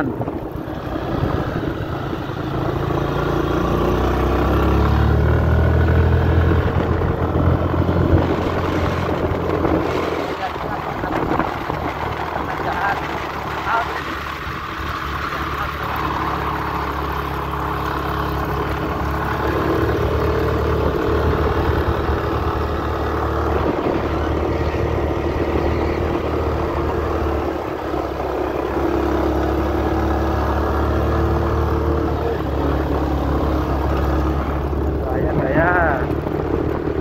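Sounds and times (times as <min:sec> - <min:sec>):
motorcycle engine running: 0:00.0 - 0:37.0
wind rushing over microphone: 0:00.0 - 0:37.0.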